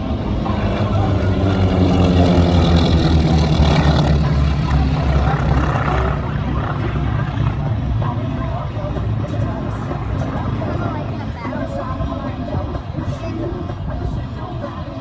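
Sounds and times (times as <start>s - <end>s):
propeller planes flying by: 0.0s - 15.0s.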